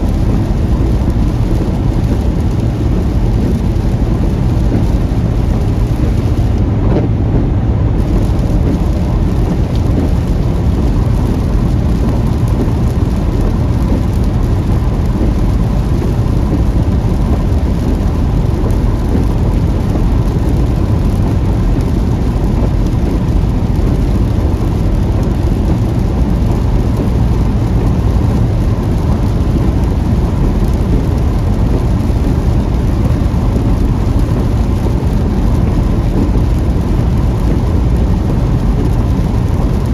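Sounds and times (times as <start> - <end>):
car road noise: 0.0 - 39.9
heavy rain: 0.0 - 39.9.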